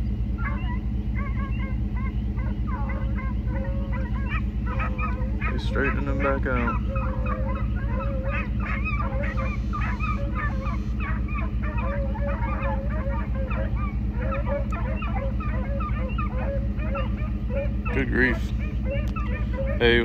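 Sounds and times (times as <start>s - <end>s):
hounds baying: 0.0s - 20.0s
truck engine idling: 0.0s - 20.0s.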